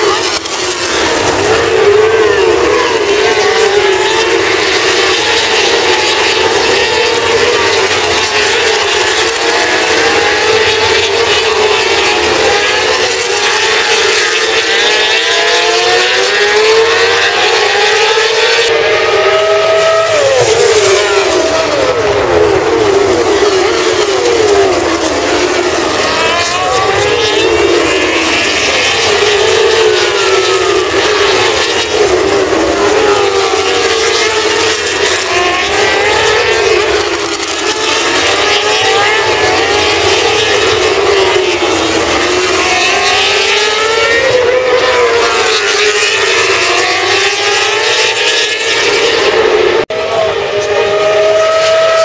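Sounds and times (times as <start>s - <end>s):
racing motorcycles passing: 0.0s - 52.0s.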